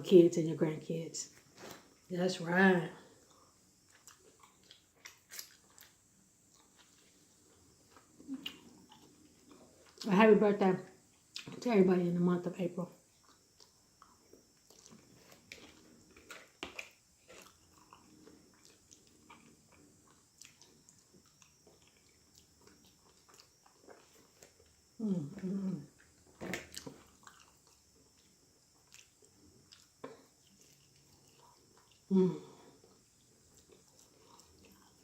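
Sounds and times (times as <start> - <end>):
person chewing food: 3.2 - 10.1, 13.1 - 35.0.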